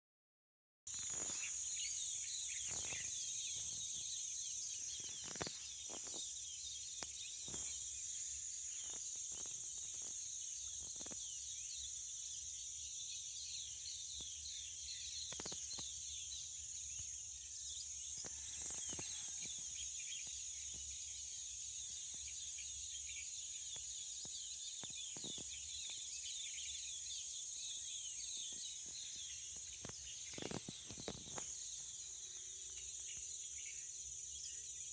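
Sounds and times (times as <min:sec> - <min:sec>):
birds chirping: 0:00.9 - 0:17.2, 0:18.2 - 0:34.9
high-pitched insect drone: 0:00.9 - 0:34.9.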